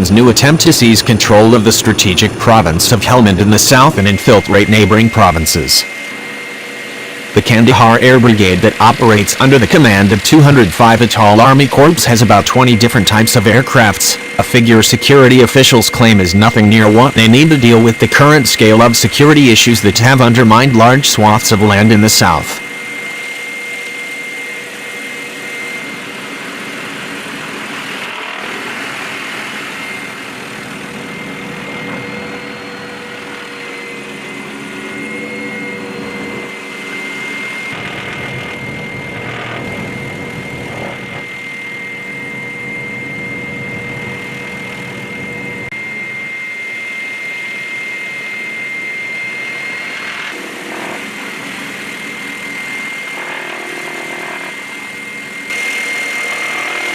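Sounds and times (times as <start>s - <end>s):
helicopter turbine engine whine: 0.0s - 56.9s.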